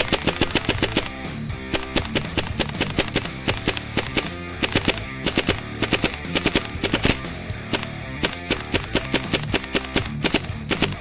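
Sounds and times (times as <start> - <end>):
guitar music: 0.0 - 11.0
pellet gun firing bursts: 0.0 - 11.0.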